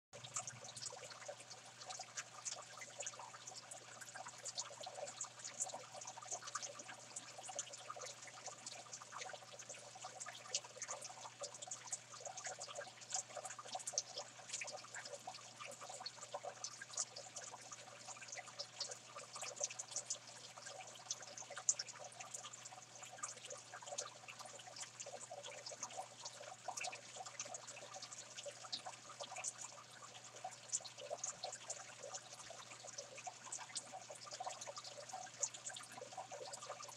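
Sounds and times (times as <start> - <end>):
aquarium water trickling and splashing: 0.2 - 36.9.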